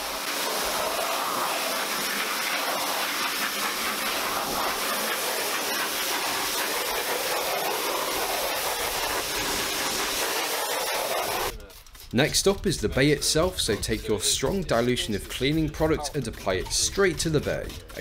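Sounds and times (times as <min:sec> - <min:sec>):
pressure washer spraying: 0:00.0 - 0:15.7.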